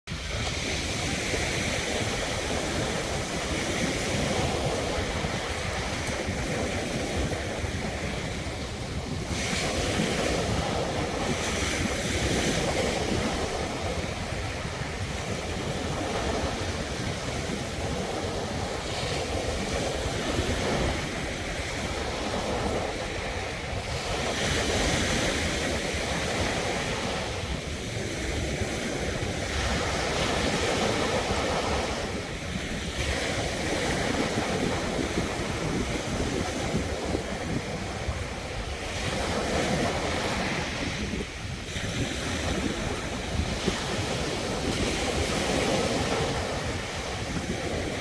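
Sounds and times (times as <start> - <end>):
surf washing onto shore: 0.1 - 48.0
wind buffeting microphone: 0.1 - 48.0.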